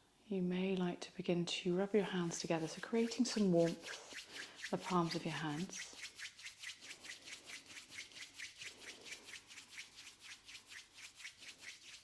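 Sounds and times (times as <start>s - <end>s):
hands rubbing together: 2.2s - 12.0s.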